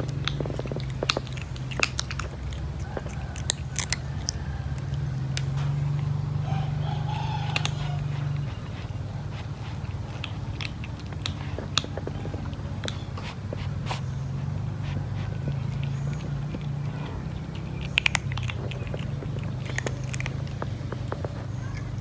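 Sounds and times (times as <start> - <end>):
kitten crunching dry kibble: 0.0 - 22.0
steady low hum: 0.0 - 22.0.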